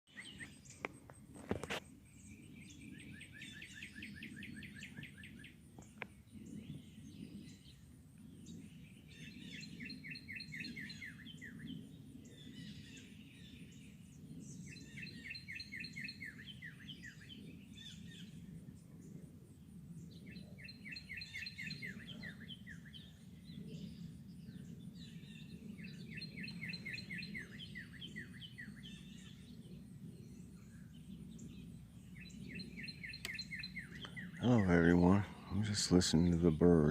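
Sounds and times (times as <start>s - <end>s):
songbirds chirping: 0.1s - 36.9s.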